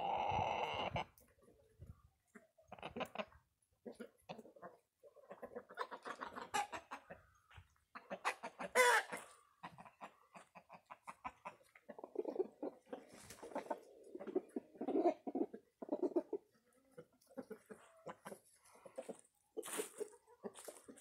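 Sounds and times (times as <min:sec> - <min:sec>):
chicken squawk: 0:00.0 - 0:01.2, 0:04.3 - 0:07.3, 0:08.0 - 0:21.0
chickens clucking: 0:00.0 - 0:21.0.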